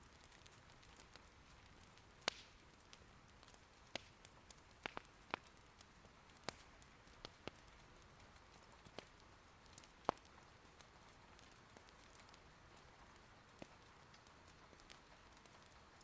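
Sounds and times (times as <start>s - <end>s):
light rain hiss: 0.0s - 16.0s
wood fire crackling and popping: 0.0s - 16.0s.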